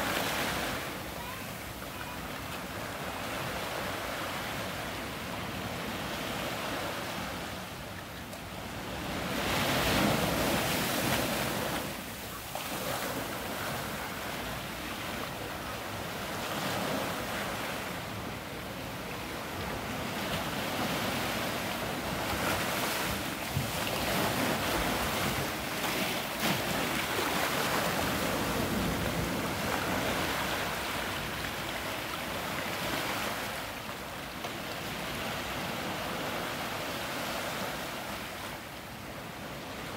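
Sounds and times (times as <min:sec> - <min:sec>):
surf washing over rocks: 0:00.0 - 0:38.7.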